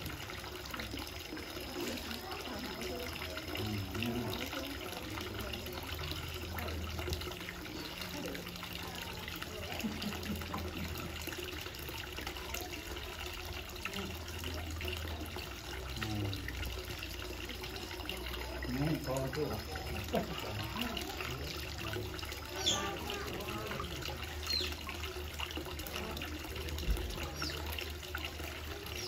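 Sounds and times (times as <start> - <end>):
water running down a metal chute: 0.0 - 29.0.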